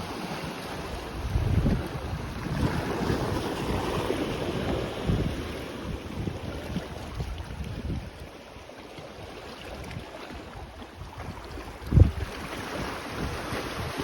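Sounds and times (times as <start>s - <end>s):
waves washing on sand: 0.0s - 14.0s
wind buffeting microphone: 0.8s - 8.4s, 9.6s - 14.0s.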